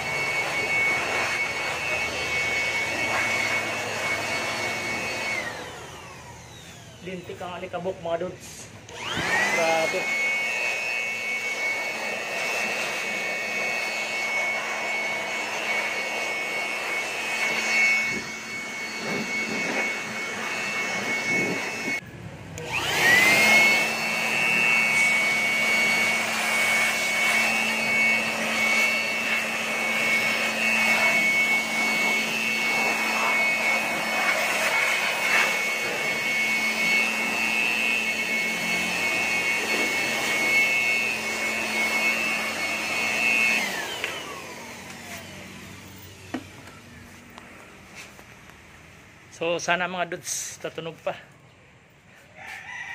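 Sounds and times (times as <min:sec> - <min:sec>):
electric blower whining: 0:00.0 - 0:51.5.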